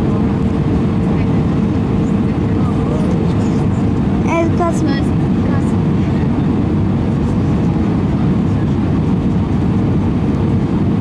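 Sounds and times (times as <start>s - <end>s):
airplane cabin engine roar: 0.0s - 11.0s.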